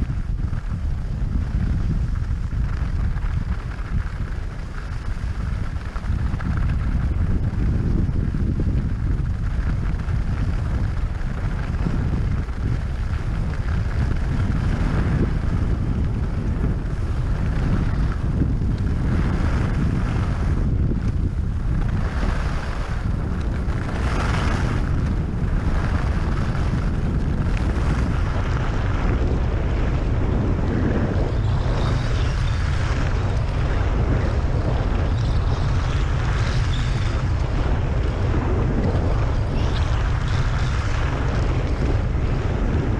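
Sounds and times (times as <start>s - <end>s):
skis sliding on snow: 0.0s - 42.9s
wind buffeting microphone: 0.0s - 42.9s.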